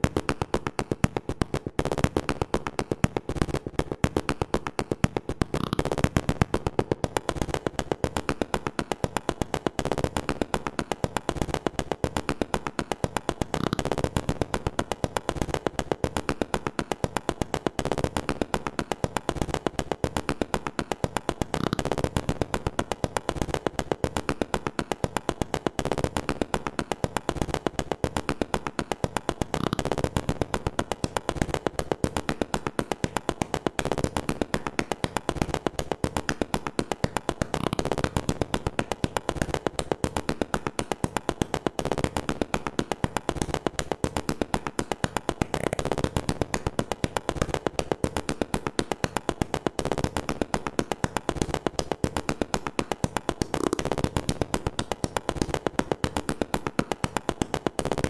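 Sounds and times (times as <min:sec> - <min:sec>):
music with fast percussive beat: 0:00.0 - 0:58.0.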